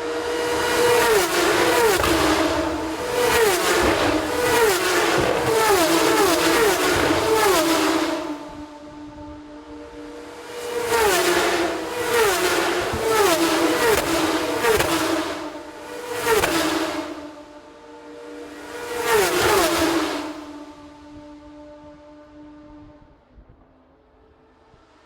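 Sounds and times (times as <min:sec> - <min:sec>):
racing cars passing at speed: 0:00.0 - 0:25.0.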